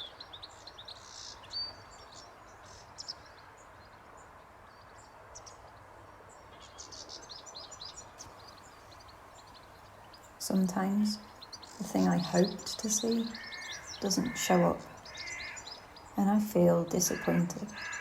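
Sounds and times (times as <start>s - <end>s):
soft background hiss: 0.0s - 17.8s
small birds chirping: 0.0s - 18.0s.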